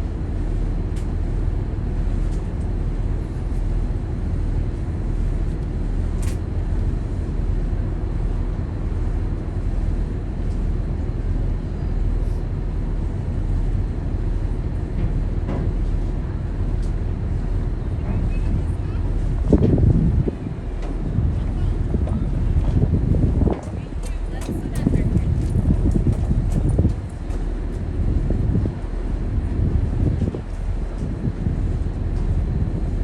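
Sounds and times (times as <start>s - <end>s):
ferry engines rumbling: 0.0s - 33.0s.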